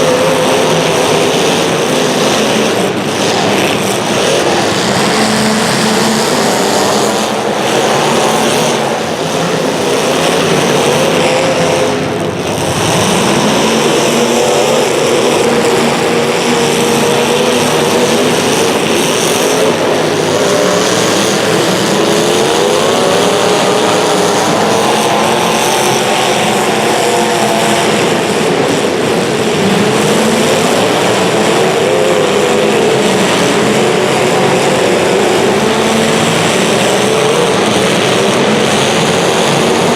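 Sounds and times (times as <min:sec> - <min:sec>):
racing engines at high revs: 0:00.0 - 0:39.9.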